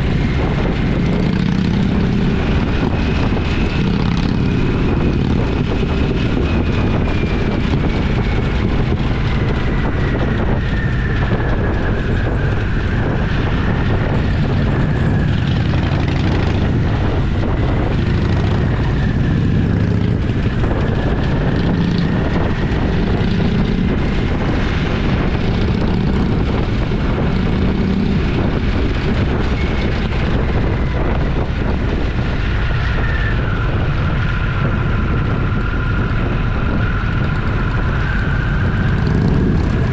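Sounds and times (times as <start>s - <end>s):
motorcycle engine running: 0.0s - 32.8s, 33.8s - 39.9s
wind rushing: 0.0s - 39.9s.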